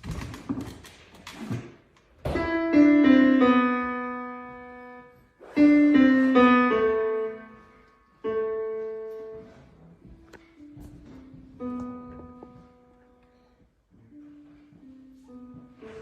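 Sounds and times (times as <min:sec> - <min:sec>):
piano notes ringing: 0:02.2 - 0:16.0.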